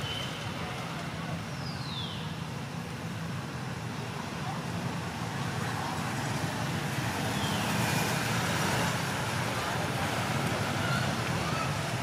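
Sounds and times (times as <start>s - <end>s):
motorbike engines passing: 0.0s - 12.0s.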